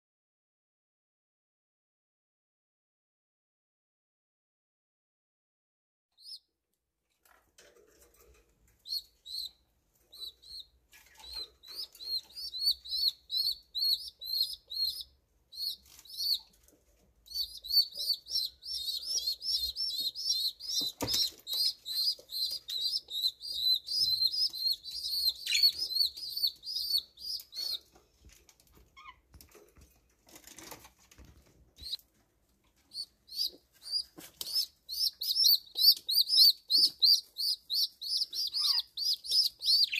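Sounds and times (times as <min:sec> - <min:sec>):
pigeon chicks peeping: 0:06.2 - 0:06.4, 0:07.6 - 0:39.9.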